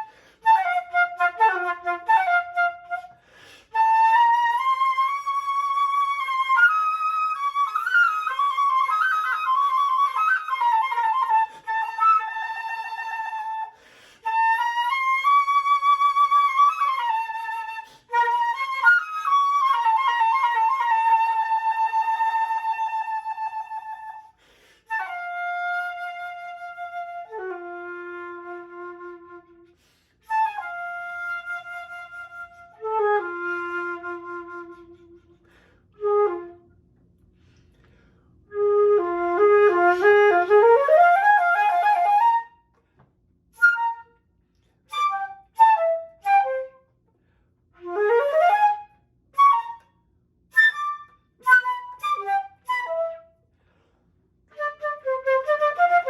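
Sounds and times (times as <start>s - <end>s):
solo flute playing: 0.0s - 36.9s, 38.5s - 42.8s, 43.5s - 53.9s, 54.5s - 56.0s.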